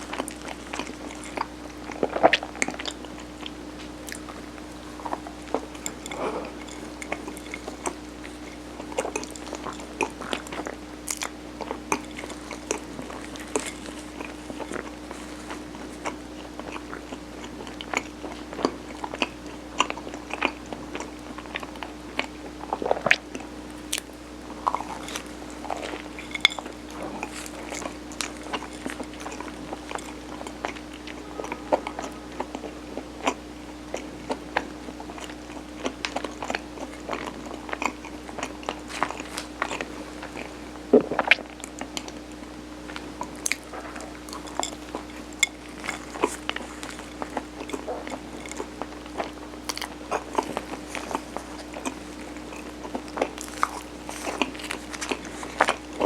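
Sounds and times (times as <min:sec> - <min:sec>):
chewing with sticky mouth clicks: 0:00.0 - 0:56.0
steady low hum: 0:00.0 - 0:56.0.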